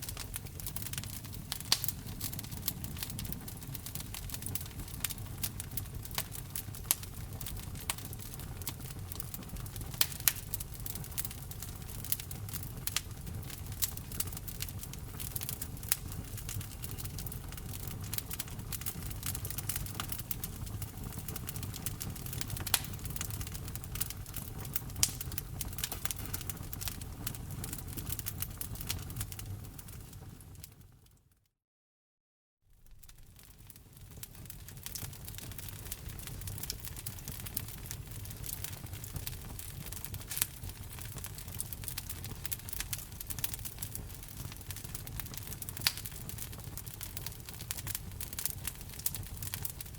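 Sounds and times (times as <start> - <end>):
burning logs crackling and popping: 0.0 - 31.0, 32.8 - 49.9
low rumble of flame: 0.0 - 31.2, 32.8 - 49.9.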